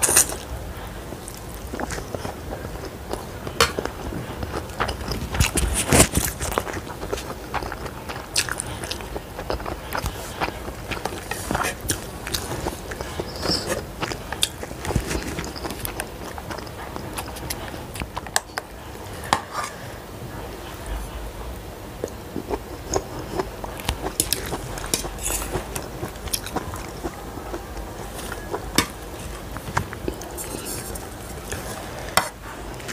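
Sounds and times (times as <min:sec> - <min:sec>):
chewing and mouth sounds: 0:00.0 - 0:19.3, 0:22.0 - 0:31.8.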